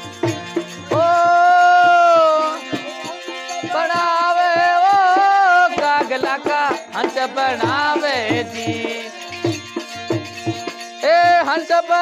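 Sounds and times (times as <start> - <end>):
dholak hand drum beat: 0.0 - 12.0
harmonium melody: 0.0 - 12.0.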